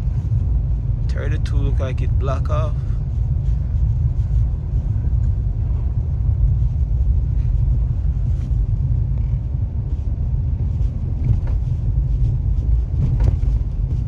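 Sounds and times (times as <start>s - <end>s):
car engine and tyre noise: 0.0s - 14.0s.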